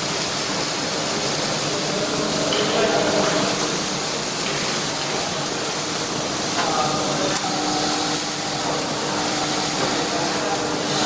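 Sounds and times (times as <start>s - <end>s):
workshop machinery hiss: 0.0s - 11.0s.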